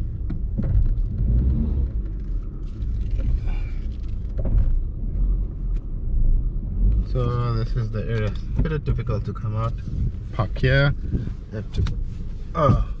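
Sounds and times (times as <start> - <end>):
car rumbling from inside: 0.0 - 13.0.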